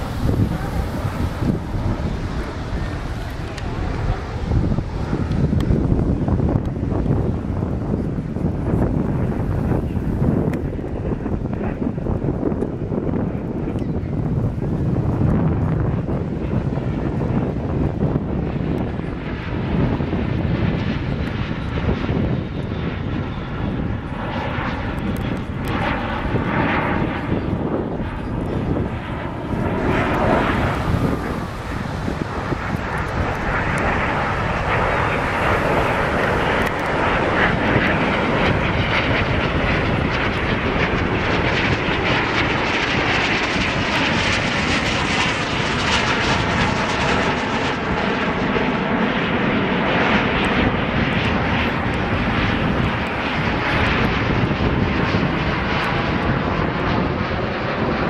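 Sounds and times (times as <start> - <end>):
jets flying overhead: 0.0 - 58.0.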